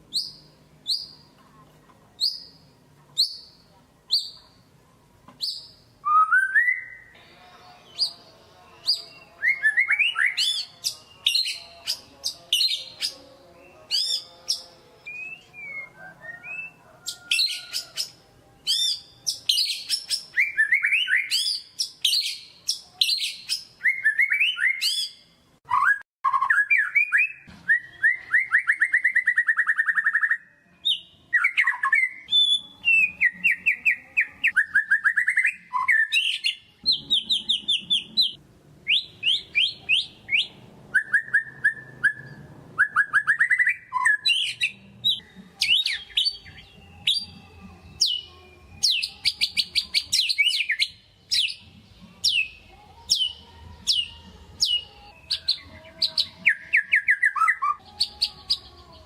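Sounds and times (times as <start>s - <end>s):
songbird singing varied song: 0.1s - 1.4s, 2.2s - 4.4s, 5.3s - 59.0s.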